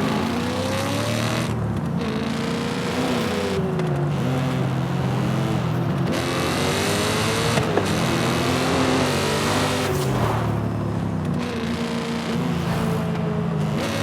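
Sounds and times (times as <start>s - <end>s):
car engine revving: 0.0s - 14.0s
road noise: 0.0s - 14.0s.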